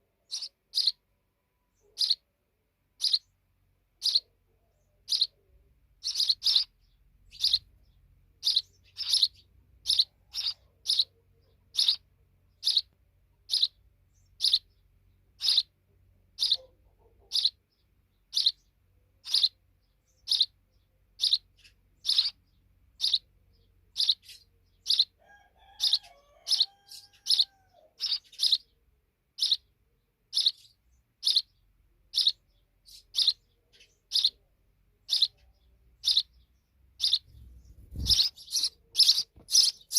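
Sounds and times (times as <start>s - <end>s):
sparrow chirping: 0.0s - 2.3s, 2.9s - 39.9s.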